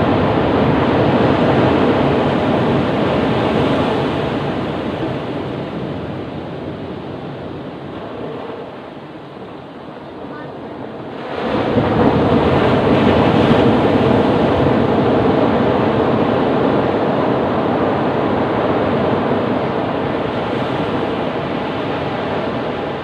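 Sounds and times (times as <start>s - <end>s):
ocean surf breaking on beach: 0.0s - 23.0s.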